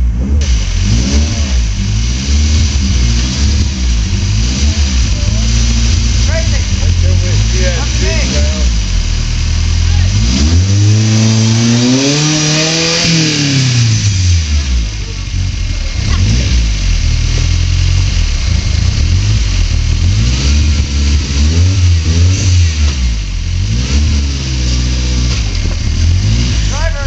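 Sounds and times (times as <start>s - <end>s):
buggy engine revving: 0.0s - 27.0s.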